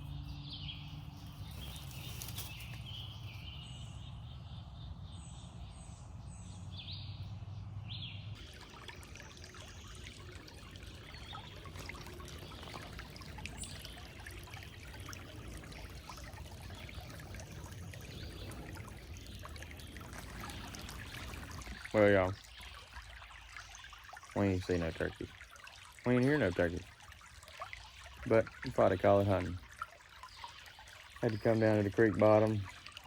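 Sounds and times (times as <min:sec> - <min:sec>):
creek trickling over rocks: 0:00.0 - 0:04.1, 0:08.4 - 0:33.0
songbirds calling: 0:00.0 - 0:33.0.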